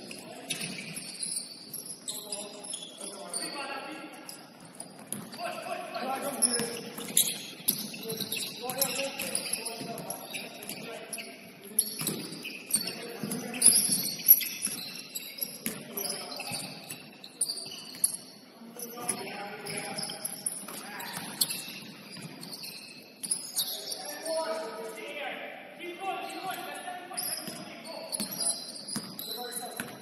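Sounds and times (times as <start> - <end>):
sneakers squeaking on floor: 0.0 - 30.0
players' voices: 2.0 - 16.8, 17.4 - 22.4, 23.3 - 30.0.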